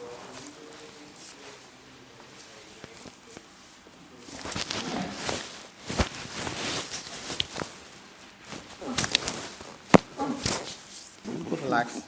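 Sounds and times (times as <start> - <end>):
clothing rustling on table: 0.0 - 11.8.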